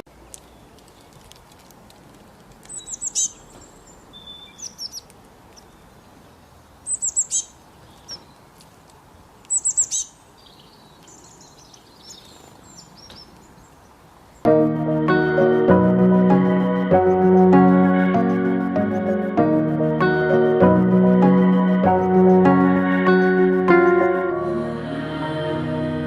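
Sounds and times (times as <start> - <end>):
songbird chirping: 2.6 - 24.3.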